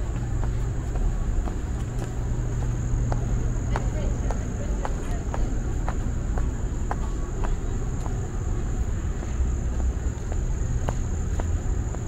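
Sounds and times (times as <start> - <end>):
footsteps: 0.0 - 12.0
low outdoor rumble: 0.0 - 12.0.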